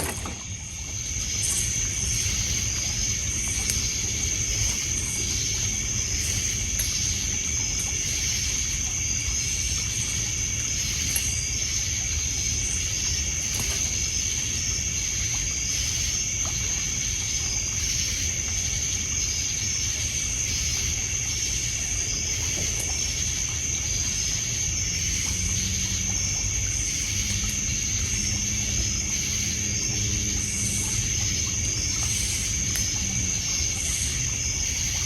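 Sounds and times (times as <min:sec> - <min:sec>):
crickets trilling: 0:00.0 - 0:35.0
insect chirping: 0:00.0 - 0:35.0
low steady drone: 0:00.0 - 0:35.0
water on a pebble beach: 0:00.0 - 0:35.0.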